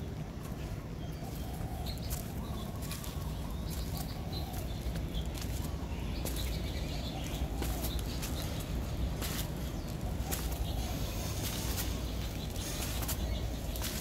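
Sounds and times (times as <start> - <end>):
birds calling: 0.0 - 14.0
steady low rumble: 0.0 - 14.0.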